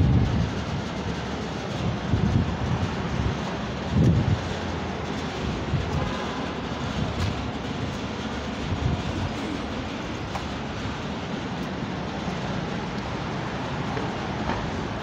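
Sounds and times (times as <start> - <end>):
street noise rumble: 0.0 - 15.0
wind buffeting microphone: 0.0 - 15.0.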